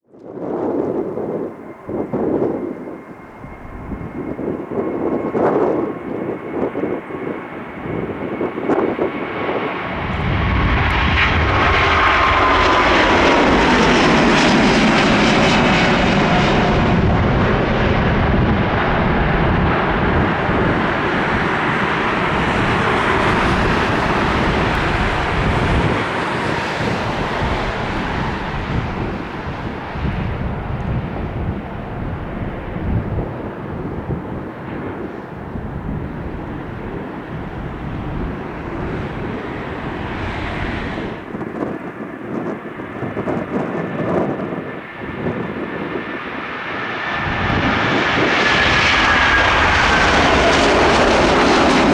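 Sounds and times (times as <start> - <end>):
jet airliner engines: 0.0 - 51.9.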